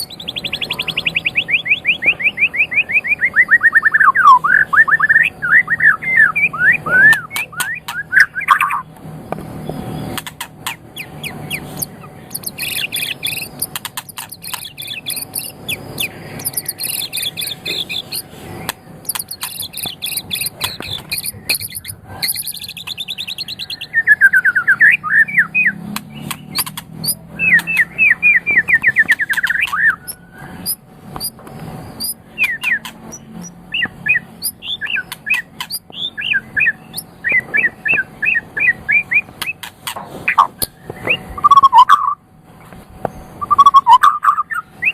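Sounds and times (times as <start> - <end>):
songbird singing varied song: 0.0 - 39.7, 40.3 - 42.2, 43.0 - 44.9.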